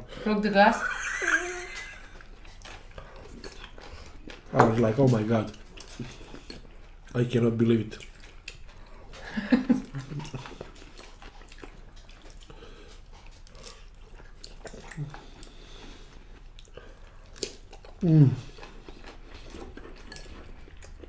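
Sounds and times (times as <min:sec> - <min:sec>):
chewing: 0:00.8 - 0:21.0.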